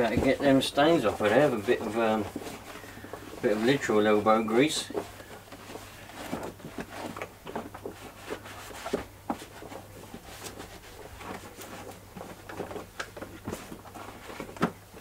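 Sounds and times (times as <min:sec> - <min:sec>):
cloth scrubbing on plastic: 0:00.0 - 0:15.0.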